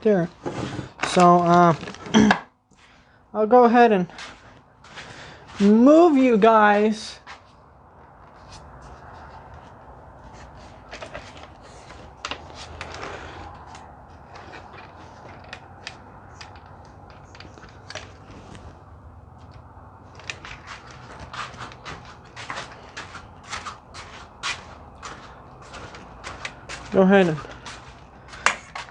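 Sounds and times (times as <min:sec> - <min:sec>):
objects being moved about: 0:00.3 - 0:02.5, 0:07.2 - 0:28.9.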